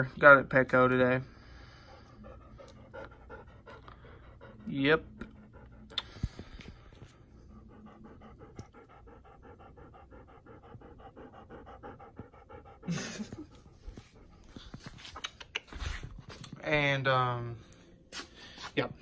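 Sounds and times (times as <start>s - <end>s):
dog panting: 0.8s - 16.4s.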